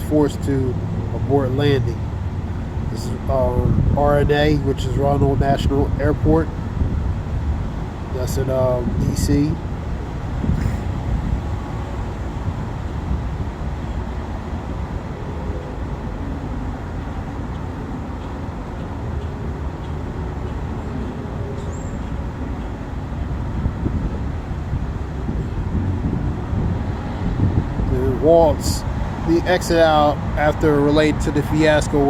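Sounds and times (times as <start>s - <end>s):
low vehicle rumble: 0.0s - 32.0s.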